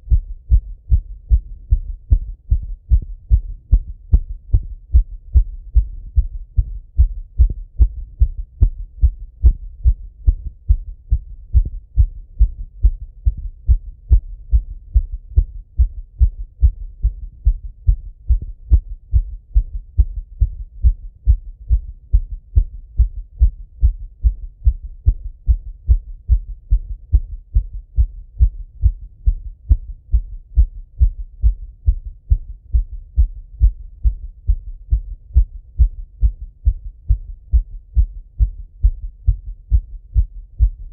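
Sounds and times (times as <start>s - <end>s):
fast heartbeat thuds: 0.0s - 40.9s.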